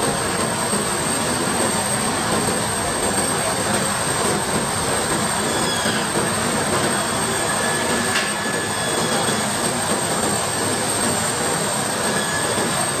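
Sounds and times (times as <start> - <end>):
jet aircraft rumble and whine: 0.0 - 13.0.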